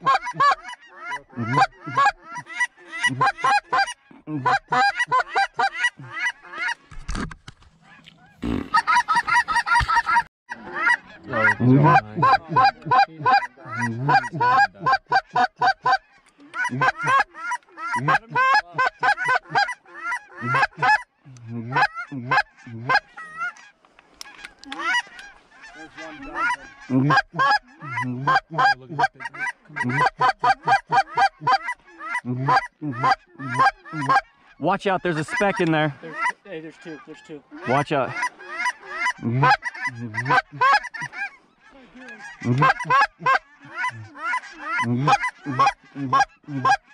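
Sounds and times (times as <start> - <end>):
goose call clucks and honks: 0.0 - 7.0, 7.8 - 46.9.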